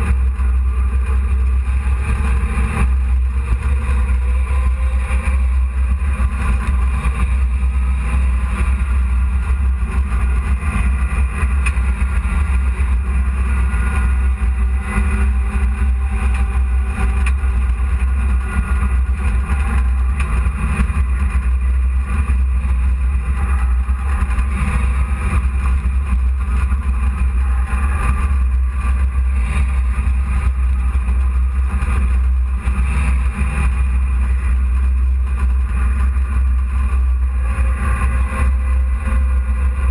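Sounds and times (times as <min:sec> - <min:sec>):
road and wind noise: 0:00.0 - 0:39.9
truck engine low rumble: 0:00.0 - 0:39.9.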